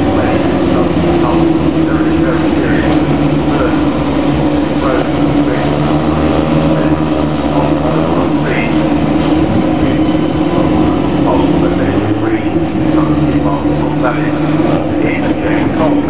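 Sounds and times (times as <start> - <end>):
race car engine revving up: 0.0 - 16.0
racing cars engine drone: 0.0 - 16.0.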